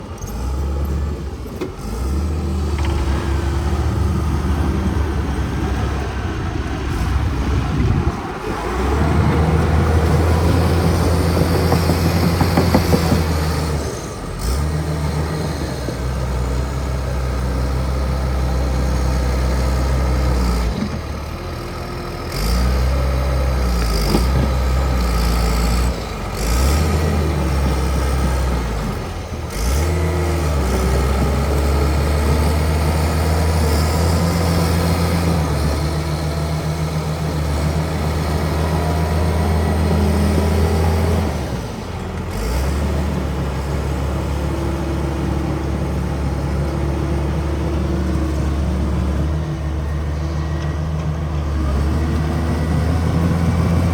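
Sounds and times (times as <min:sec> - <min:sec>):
bulldozer diesel engine under load: 0:00.0 - 0:53.9.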